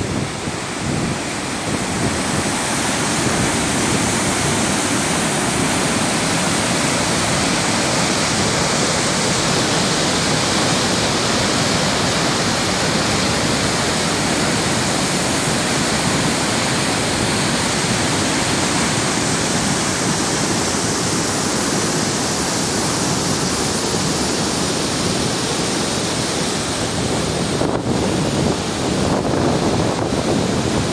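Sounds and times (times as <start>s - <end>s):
rapids rushing white water: 0.0s - 30.9s.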